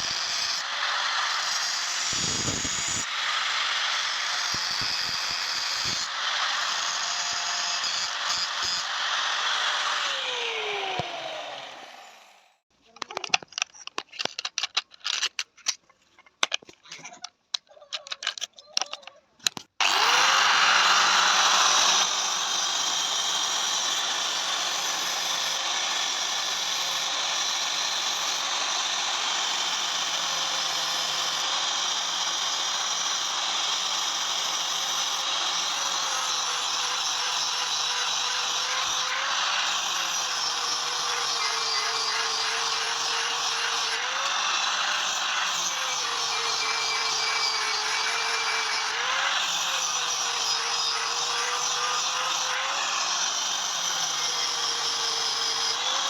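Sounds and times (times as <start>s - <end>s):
power tool whining: 0.0s - 12.6s, 19.8s - 56.0s.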